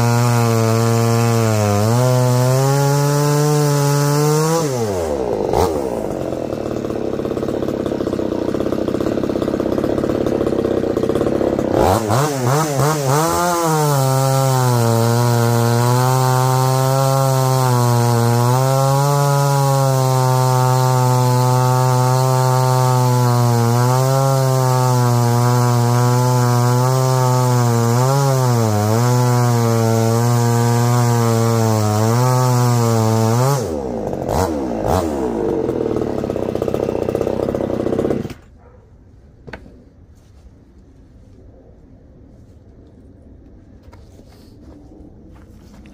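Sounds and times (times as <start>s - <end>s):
chainsaw cutting log: 0.0s - 38.8s, 39.4s - 39.8s.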